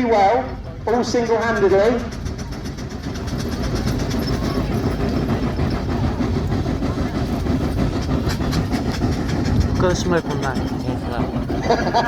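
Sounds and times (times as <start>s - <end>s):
steam engine exhaust chuffing: 0.5s - 12.0s.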